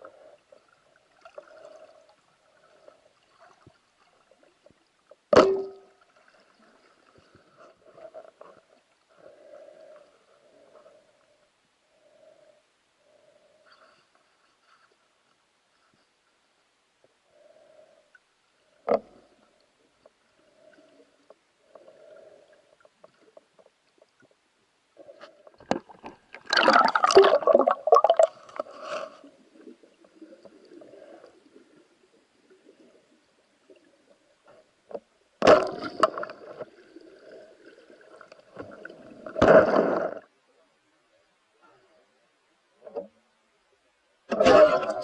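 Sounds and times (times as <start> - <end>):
underwater gurgling and sloshing: 0.0 - 45.0.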